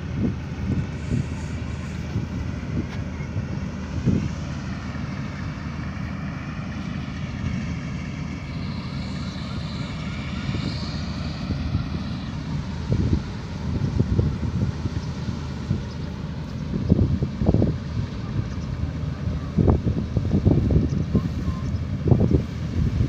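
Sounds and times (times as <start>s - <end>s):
combine harvester engine running: 0.0s - 23.0s
wind gusts on microphone: 0.0s - 23.0s.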